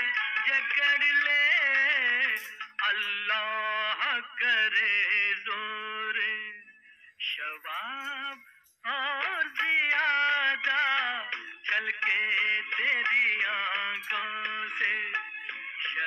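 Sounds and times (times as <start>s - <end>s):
film song with singing voice: 0.0s - 16.0s.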